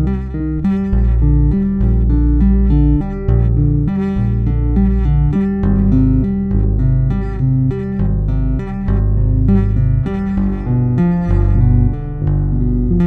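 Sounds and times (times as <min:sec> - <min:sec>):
low bass notes: 0:00.0 - 0:13.0
tapped electric bass notes: 0:00.0 - 0:13.0.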